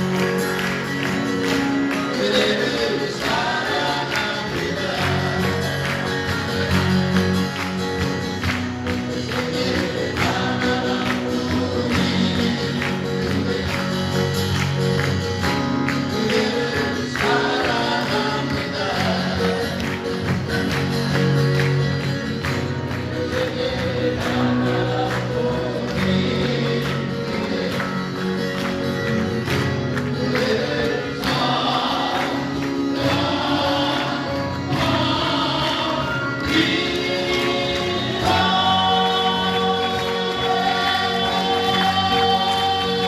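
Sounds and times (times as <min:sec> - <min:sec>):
acoustic guitars strumming: 0:00.0 - 0:43.0
male voices singing together: 0:01.4 - 0:07.3, 0:08.9 - 0:14.4, 0:15.8 - 0:21.4, 0:22.9 - 0:43.0.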